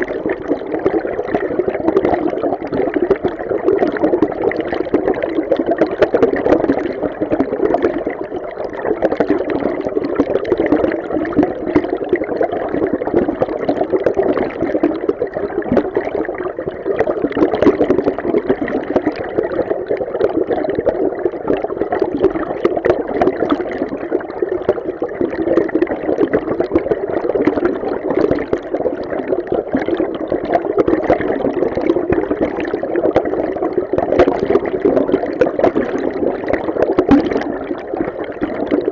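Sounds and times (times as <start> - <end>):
underwater stream rushing and bubbling: 0.0 - 38.9.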